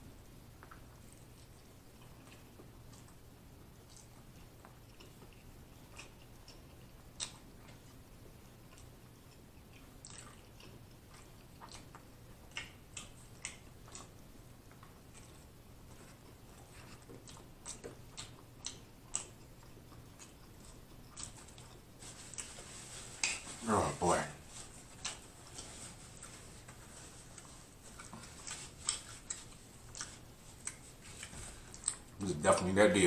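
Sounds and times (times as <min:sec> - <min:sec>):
wet chewing and mouth smacks: 0:00.6 - 0:23.5, 0:24.7 - 0:32.2.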